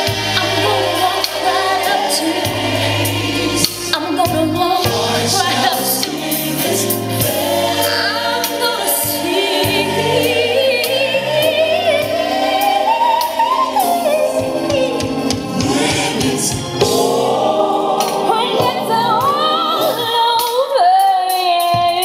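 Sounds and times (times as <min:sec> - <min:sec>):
gospel choir singing: 0:00.0 - 0:20.8
lead voice singing: 0:00.0 - 0:20.8.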